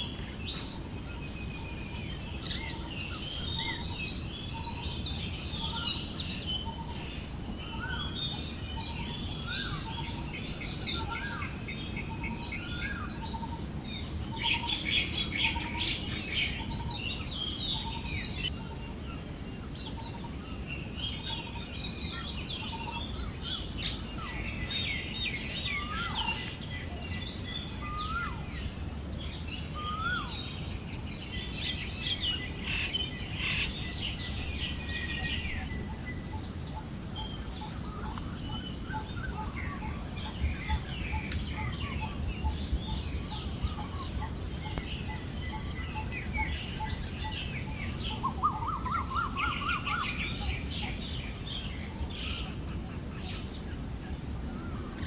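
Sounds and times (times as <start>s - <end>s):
birds chirping: 0.0s - 55.0s
insect drone: 0.0s - 55.0s.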